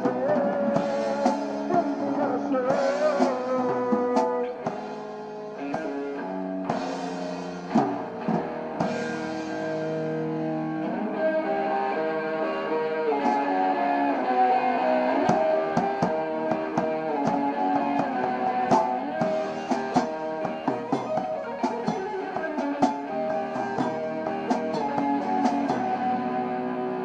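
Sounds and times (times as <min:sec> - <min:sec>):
electric guitar playing: 0:00.0 - 0:27.0.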